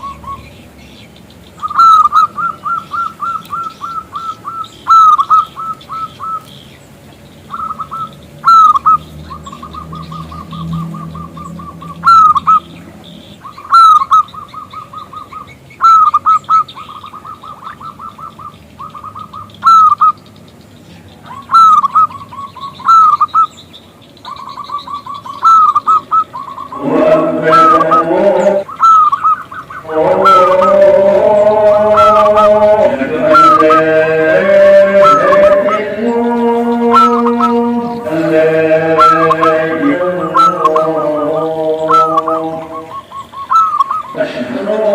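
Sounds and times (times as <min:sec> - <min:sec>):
faint high bird chirps: 0:00.0 - 0:32.6, 0:39.0 - 0:44.3
dove cooing trilled notes: 0:00.0 - 0:44.9.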